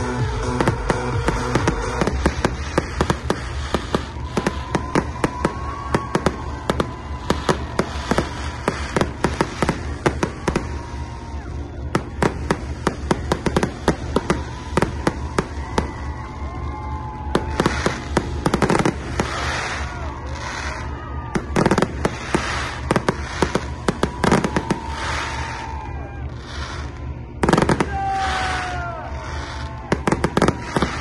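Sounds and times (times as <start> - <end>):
fireworks bangs and pops: 0.0 - 31.0.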